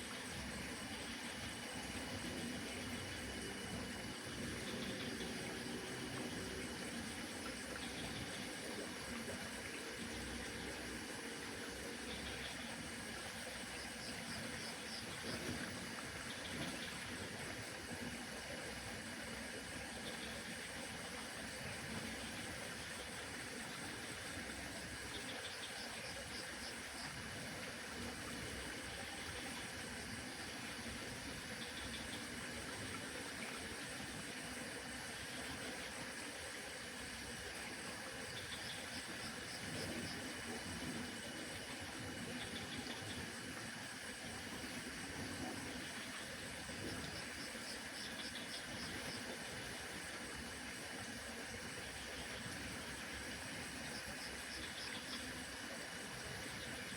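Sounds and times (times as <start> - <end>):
faint steady hum: 0.0 - 56.9
steady background hiss: 0.0 - 56.9.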